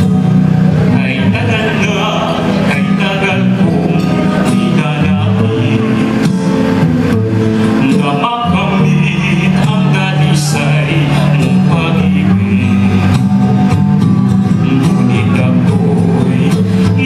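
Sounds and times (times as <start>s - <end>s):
guitar: 0.0s - 17.0s
man singing into microphone: 0.8s - 6.8s, 7.6s - 17.0s.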